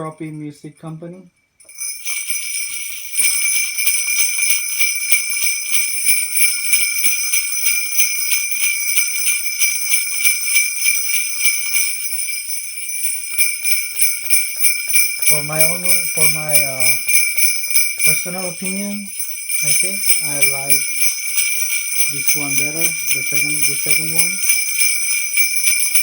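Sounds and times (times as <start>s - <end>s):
sleigh bells jingling: 0.0s - 26.0s.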